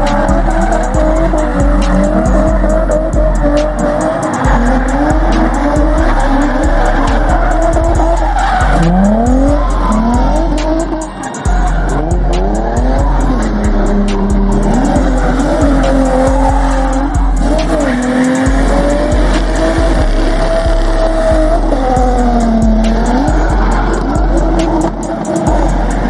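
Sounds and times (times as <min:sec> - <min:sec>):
car engine revving: 0:00.0 - 0:26.0
music with heavy bass: 0:00.0 - 0:26.0
tires squealing: 0:00.0 - 0:26.0.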